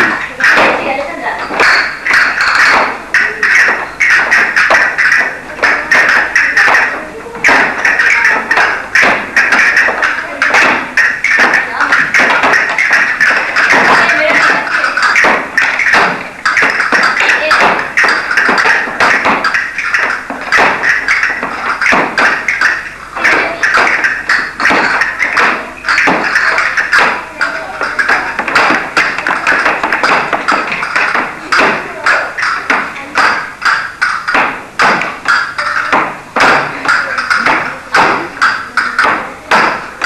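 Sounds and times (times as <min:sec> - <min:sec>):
flamenco-style music: 0:00.0 - 0:40.0
shoes tapping on wooden floor: 0:00.0 - 0:40.0
castanets clicking: 0:01.4 - 0:40.0.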